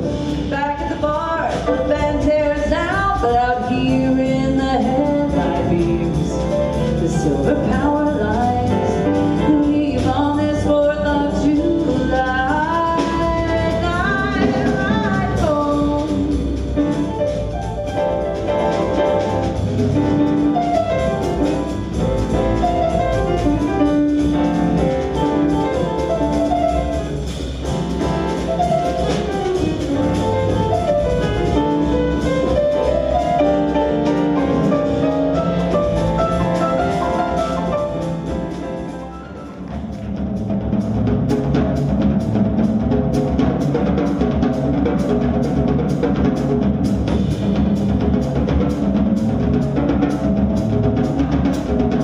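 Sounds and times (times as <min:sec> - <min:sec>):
live jazz band playing: 0:00.0 - 0:52.0.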